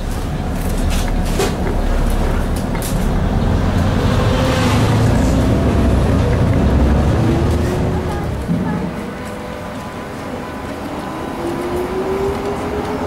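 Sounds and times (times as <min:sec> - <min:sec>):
tram low rumble: 0:00.0 - 0:13.0.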